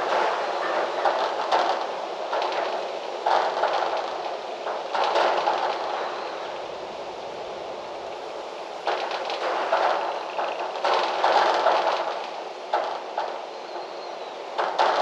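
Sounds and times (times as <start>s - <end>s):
gusty wind through trees: 0.0s - 15.0s.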